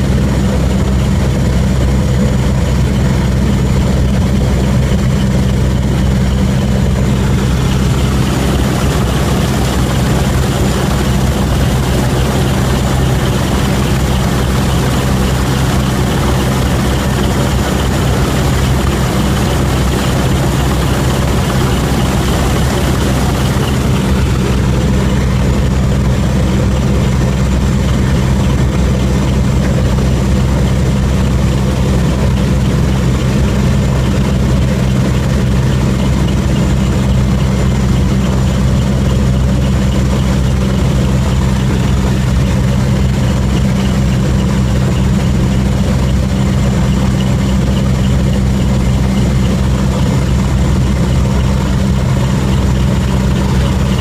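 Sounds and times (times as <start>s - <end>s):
helicopter engines and rotors droning: 0.0s - 54.0s.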